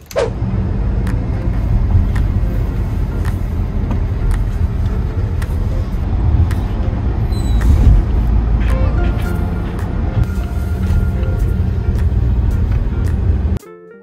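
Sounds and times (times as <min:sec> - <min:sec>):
engine and road rumble: 0:00.0 - 0:13.6.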